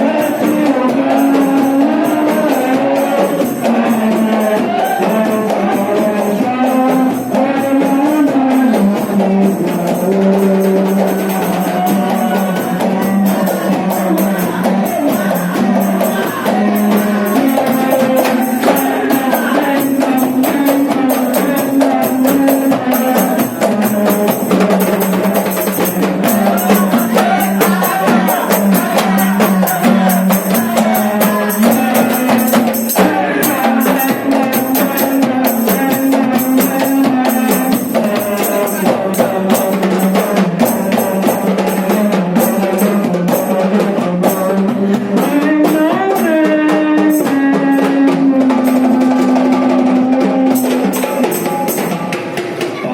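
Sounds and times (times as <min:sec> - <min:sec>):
drums and percussion: 0:00.0 - 0:52.9.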